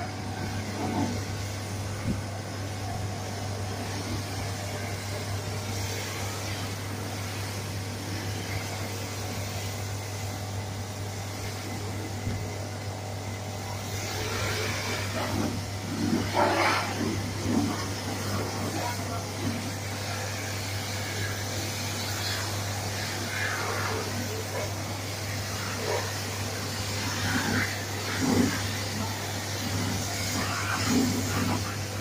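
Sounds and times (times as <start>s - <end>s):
car wash machine humming: 0.0s - 32.0s.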